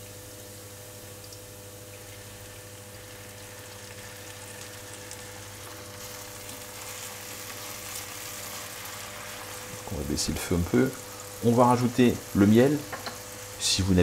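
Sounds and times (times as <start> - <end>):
vinegar sizzling in a frying pan: 0.0 - 14.0.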